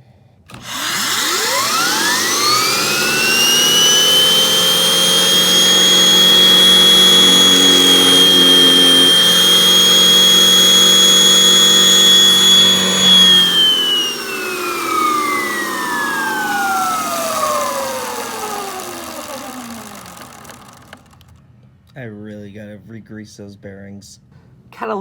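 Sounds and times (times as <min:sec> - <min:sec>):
vacuum cleaner motor whine: 0:00.5 - 0:21.3.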